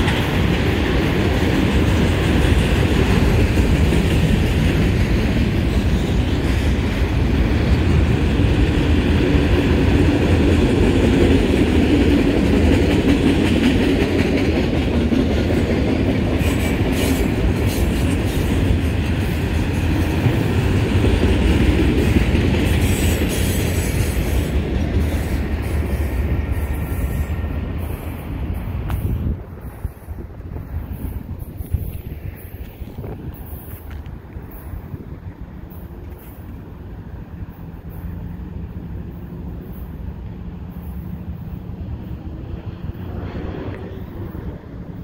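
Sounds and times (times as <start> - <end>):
train clicks: 0.0 - 45.0
train wheels rumbling on rail: 0.0 - 45.0.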